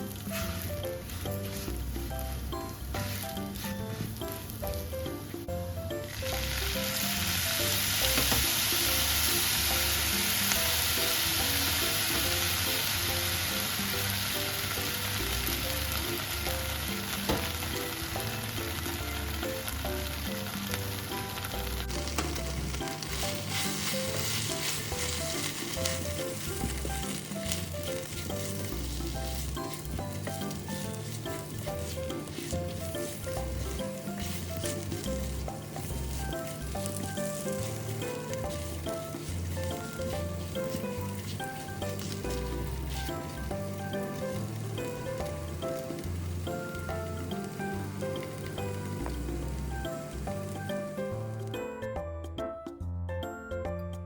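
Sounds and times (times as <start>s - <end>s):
food sizzling in frying pan: 0.0s - 51.5s
light background music: 0.0s - 54.0s.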